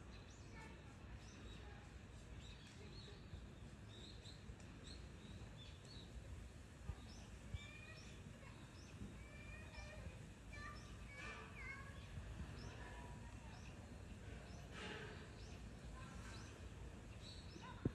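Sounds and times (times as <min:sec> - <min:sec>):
low outdoor background: 0:00.0 - 0:17.9
small birds chirping: 0:00.0 - 0:17.9.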